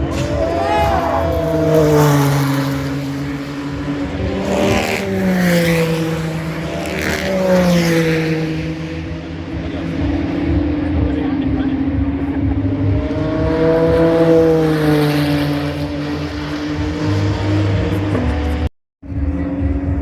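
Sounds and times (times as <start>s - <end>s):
race cars passing at speed: 0.0s - 20.0s.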